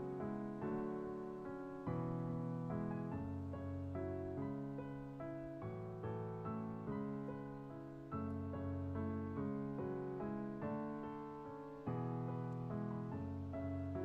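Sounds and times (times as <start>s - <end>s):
slow gentle piano chords: 0.0s - 14.0s.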